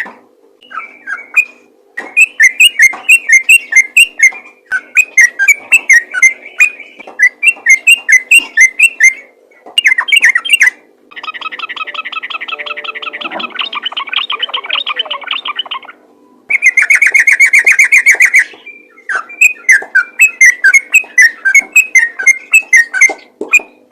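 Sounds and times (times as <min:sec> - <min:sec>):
faint steady hum: 0:00.0 - 0:23.9
bulbul chattering song: 0:00.6 - 0:23.9.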